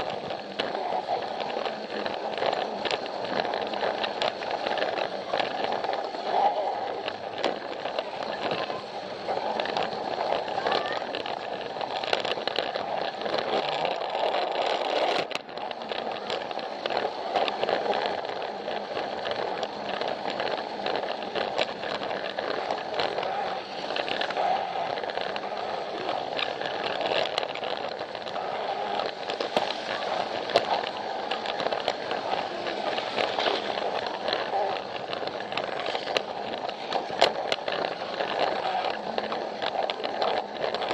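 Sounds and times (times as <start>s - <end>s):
toy train motor hum: 0.0s - 40.9s
wheels clicking over rail joints: 0.0s - 40.9s.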